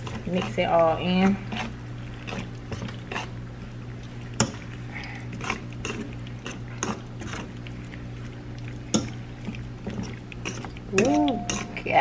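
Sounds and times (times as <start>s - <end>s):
utensil scraping frying pan: 0.0s - 3.5s, 4.2s - 12.0s
steady low hum: 0.0s - 12.0s.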